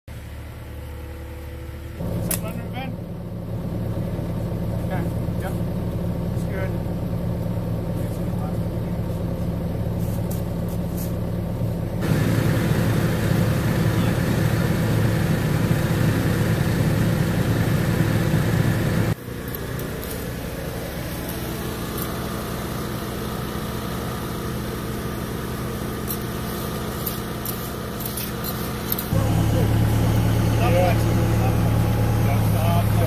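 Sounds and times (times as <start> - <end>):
excavator engine running: 0.1 - 33.0.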